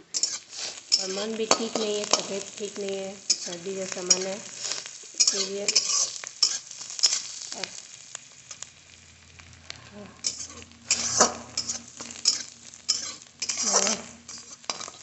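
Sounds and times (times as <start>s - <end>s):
spatula scraping a pan: 0.0s - 8.7s, 10.2s - 15.0s
onions sizzling in hot oil: 0.0s - 15.0s.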